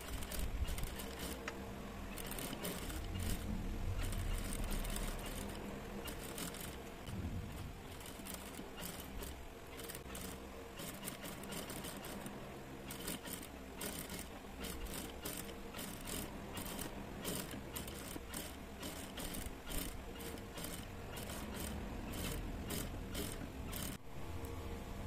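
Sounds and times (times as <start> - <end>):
sewing machine running: 0.0 - 1.5, 2.1 - 24.1.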